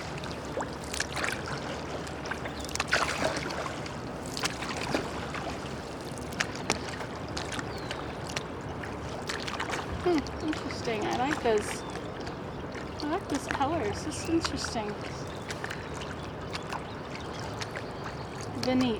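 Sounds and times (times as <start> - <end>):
rush of moving water: 0.0 - 18.9
small water splashes and drips: 0.0 - 18.9.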